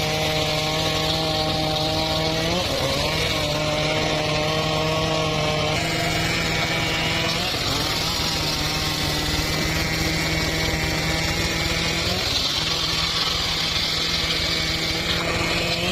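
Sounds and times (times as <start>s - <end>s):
circular saw cutting wood: 0.0s - 15.9s.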